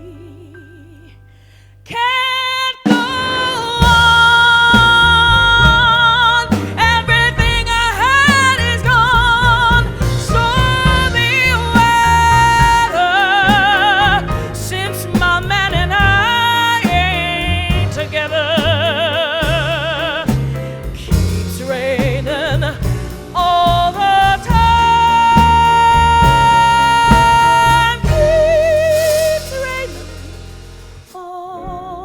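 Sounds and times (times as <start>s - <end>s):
woman singing jazz: 0.0s - 32.0s
piano bass and drums trio: 2.8s - 32.0s.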